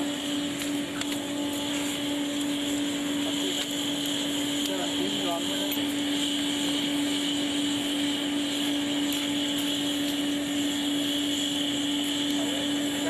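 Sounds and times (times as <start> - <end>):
electric air blower running: 0.0 - 13.0.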